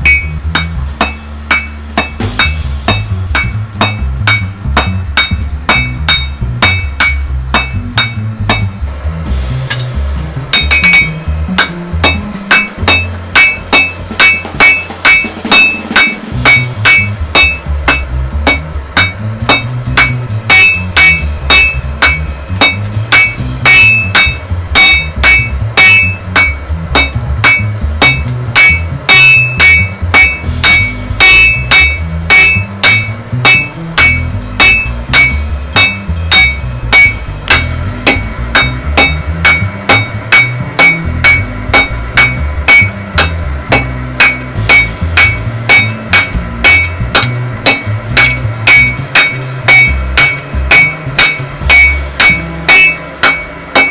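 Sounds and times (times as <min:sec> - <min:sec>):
background music with bass: 0:00.0 - 0:53.9
hammer striking steel on anvil: 0:00.0 - 0:53.9.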